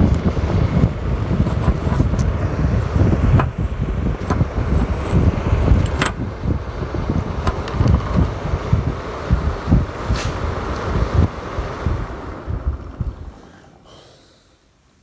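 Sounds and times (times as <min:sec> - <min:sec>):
fan motor rumbling: 0:00.0 - 0:15.0.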